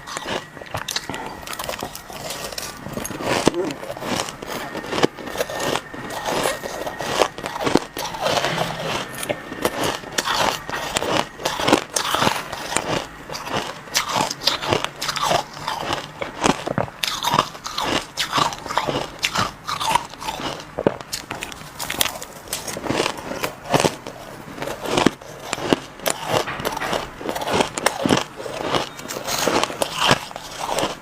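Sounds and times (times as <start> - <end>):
person chewing crushed ice: 0.0 - 31.0.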